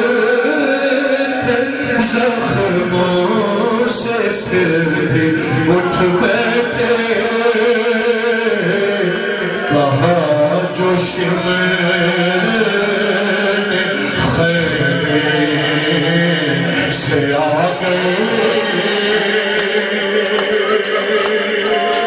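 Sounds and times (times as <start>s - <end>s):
man singing: 0.0s - 22.0s.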